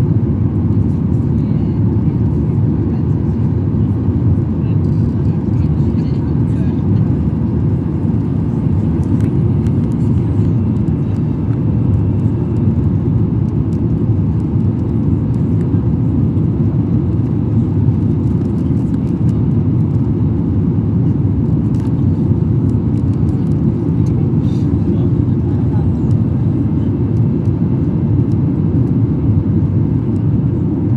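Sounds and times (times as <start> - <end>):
airliner cabin engine rumble: 0.0 - 30.9.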